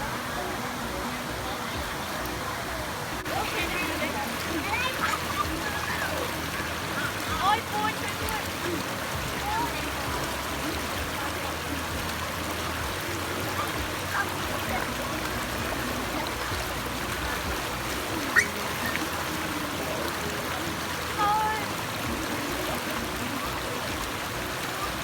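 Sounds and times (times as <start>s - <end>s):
faint voices: 0.0s - 25.0s
small waterfall rushing: 0.0s - 25.0s.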